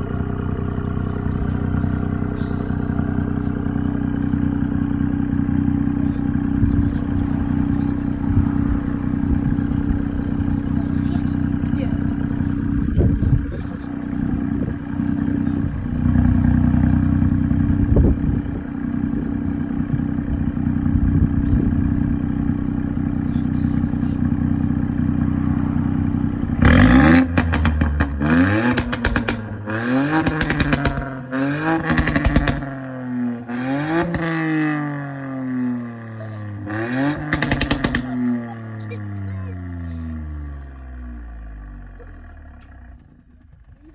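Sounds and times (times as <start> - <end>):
exhaust popping and crackling: 0.0 - 35.4, 36.4 - 43.9
car engine idling and revving: 0.0 - 43.9.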